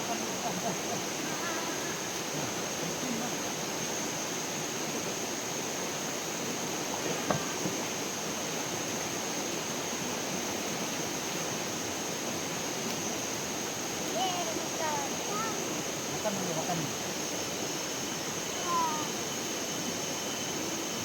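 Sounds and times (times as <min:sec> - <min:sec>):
stream water flowing: 0:00.0 - 0:20.8.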